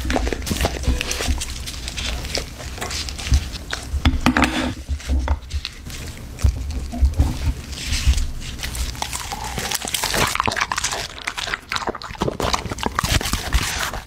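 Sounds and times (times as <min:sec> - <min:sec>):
dog crunching frozen treats: 0:00.0 - 0:04.0, 0:04.7 - 0:14.0.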